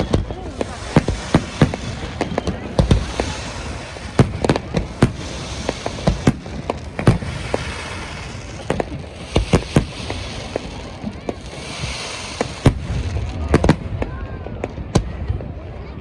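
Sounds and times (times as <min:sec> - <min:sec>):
fireworks bangs: 0:00.0 - 0:15.9
crackling hiss of bursting shells: 0:00.5 - 0:13.8.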